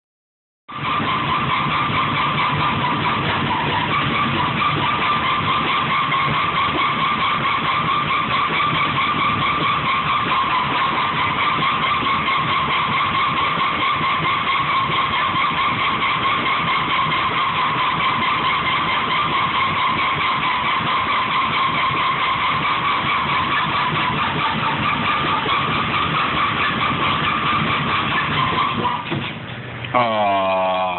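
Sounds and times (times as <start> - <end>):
washing machine high-pitched squeal: 0.7 - 29.2.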